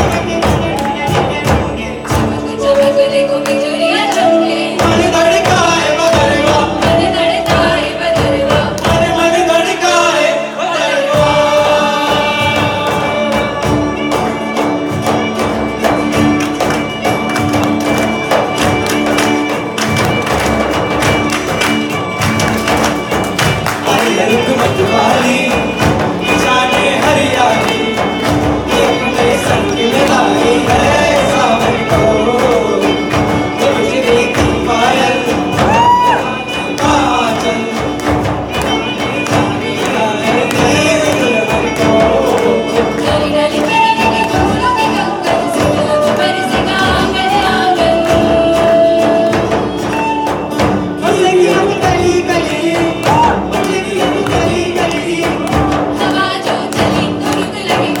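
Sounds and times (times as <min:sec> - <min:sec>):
acoustic guitars: 0:00.0 - 0:58.0
cajon and hand drums: 0:00.0 - 0:58.0
group of voices singing: 0:00.0 - 0:58.0
violin: 0:00.0 - 0:58.0.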